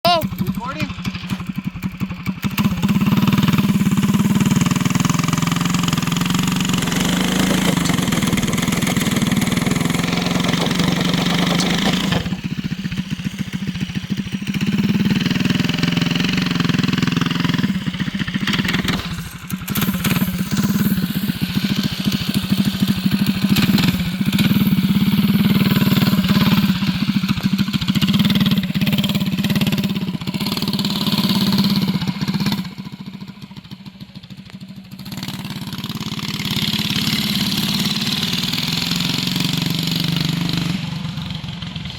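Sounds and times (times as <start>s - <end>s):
small engine revving hard: 2.4s - 33.2s, 35.0s - 41.9s.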